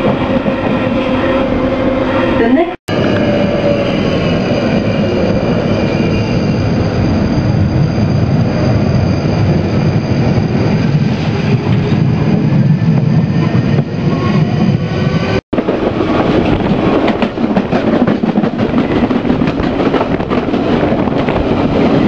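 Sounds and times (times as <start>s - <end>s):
train wheels rumbling and rattling: 2.9s - 22.0s.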